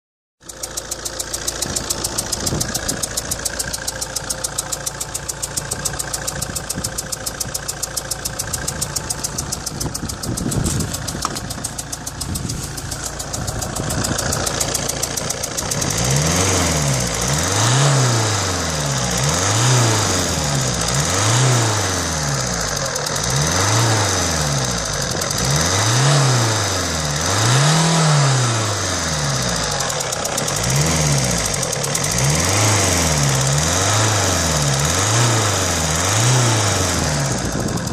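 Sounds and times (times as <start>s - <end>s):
diesel engine idling with ticking: 0.4s - 37.9s.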